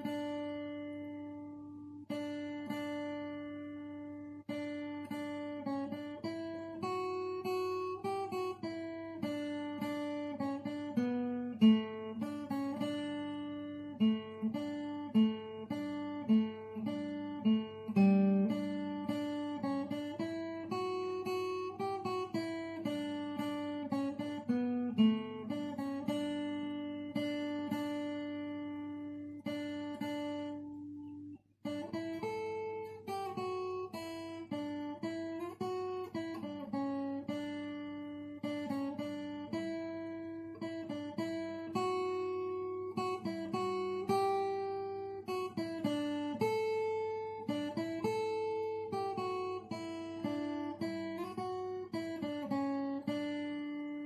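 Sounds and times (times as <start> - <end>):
acoustic guitar melody: 0.0 - 54.0.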